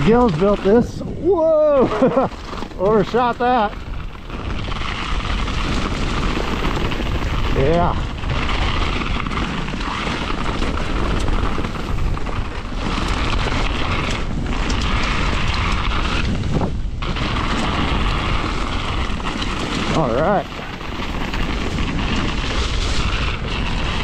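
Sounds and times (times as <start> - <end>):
bike rattling: 0.0 - 24.0
tyres rolling over dirt and leaves: 0.0 - 24.0
wind rush on microphone: 0.0 - 24.0.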